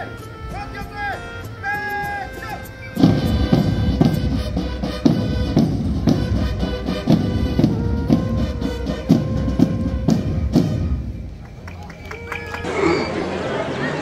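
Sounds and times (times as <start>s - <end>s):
march music: 0.0s - 13.9s.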